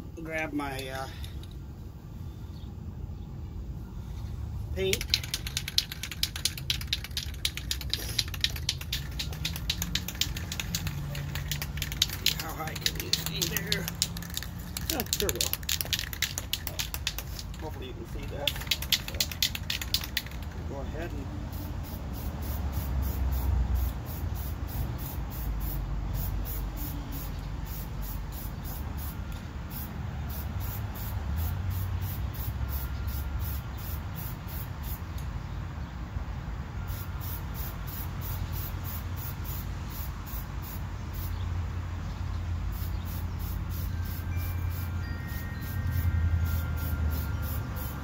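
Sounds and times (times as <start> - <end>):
spray paint can hissing: 4.8 - 20.7, 21.4 - 35.1, 36.9 - 41.4, 42.7 - 48.0.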